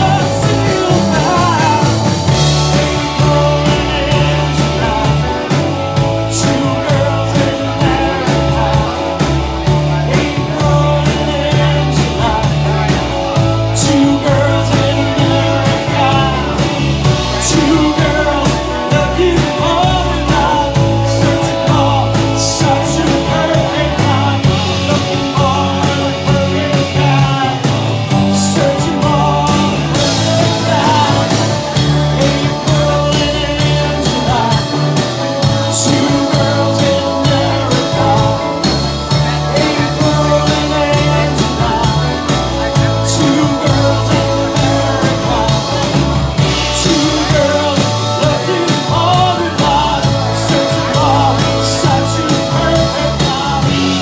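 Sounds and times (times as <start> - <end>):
bass guitar: 0.0 - 54.0
drums keeping a steady beat: 0.0 - 54.0
electric guitars: 0.0 - 54.0.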